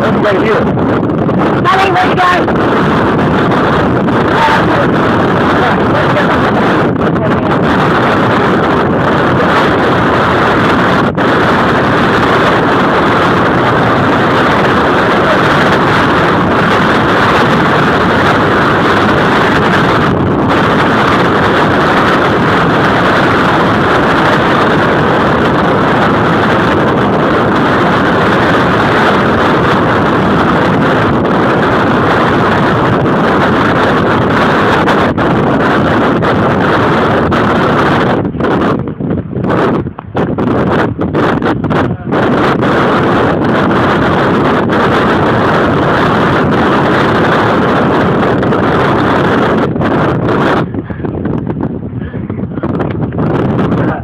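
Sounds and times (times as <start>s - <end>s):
loud rushing wind: 0.0s - 54.0s.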